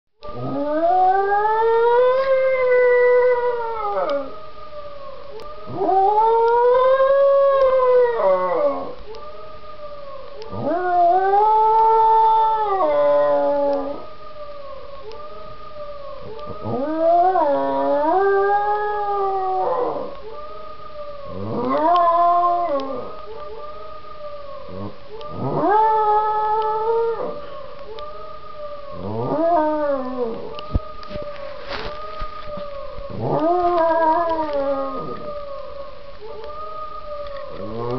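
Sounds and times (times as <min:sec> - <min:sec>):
small dog howling: 0:00.3 - 0:04.4, 0:05.1 - 0:09.4, 0:10.3 - 0:14.1, 0:16.2 - 0:20.6, 0:21.3 - 0:37.9.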